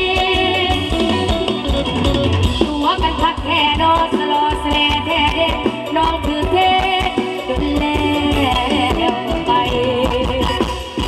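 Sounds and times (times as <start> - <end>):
woman singing: 0.0 - 1.7, 2.6 - 11.0
steady drum beat: 0.0 - 11.0.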